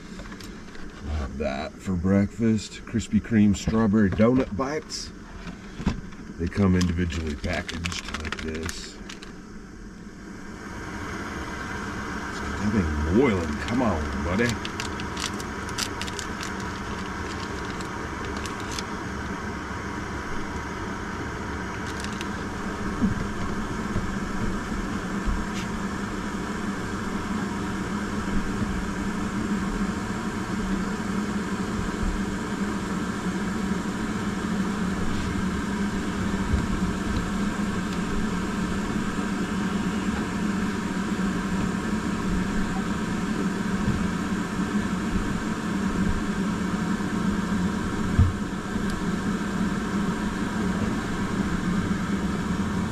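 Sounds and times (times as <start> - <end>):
gas stove burner hissing: 8.4 - 52.9.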